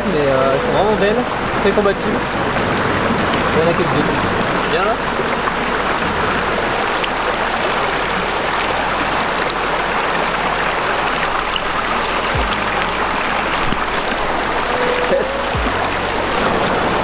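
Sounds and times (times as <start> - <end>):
low bump: 0.0 - 17.0
mountain torrent rushing over rocks: 0.0 - 17.0.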